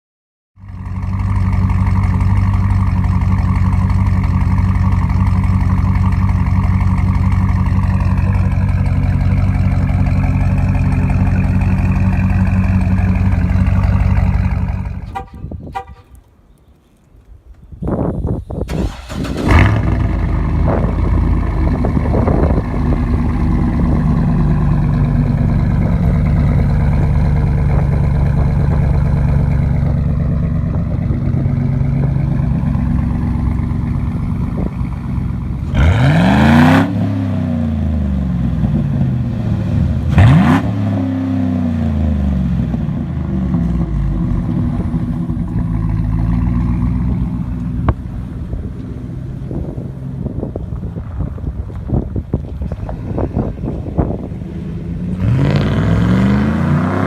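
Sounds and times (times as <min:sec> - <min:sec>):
car engine idling and revving: 0:00.6 - 0:16.2, 0:17.9 - 0:57.0.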